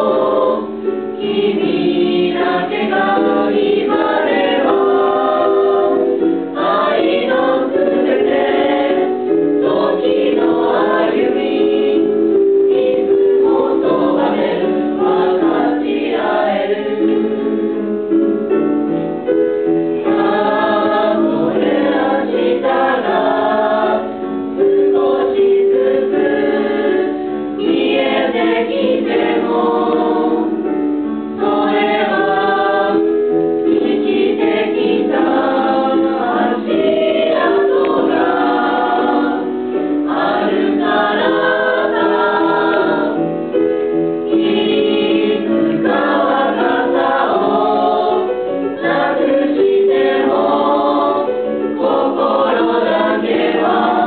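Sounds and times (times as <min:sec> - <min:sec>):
small choir singing: 0:00.0 - 0:54.0.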